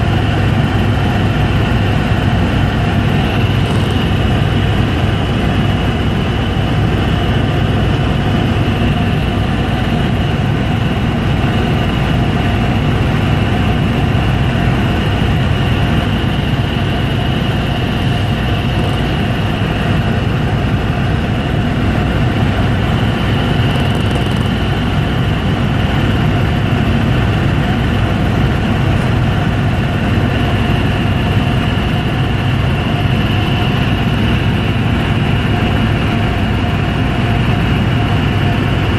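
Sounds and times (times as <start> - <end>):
helicopter engine and rotor drone: 0.0 - 38.9
high whine: 0.0 - 38.9.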